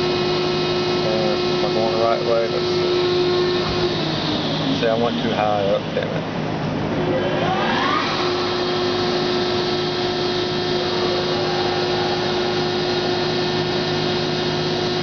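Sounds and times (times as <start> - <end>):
hydraulic press whine and hiss: 0.0 - 15.0.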